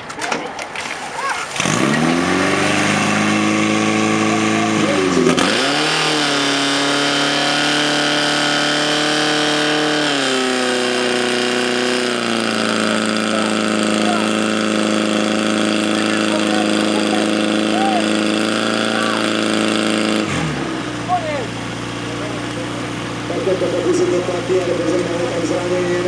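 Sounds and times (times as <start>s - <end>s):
fire pump engine running: 0.0s - 26.0s.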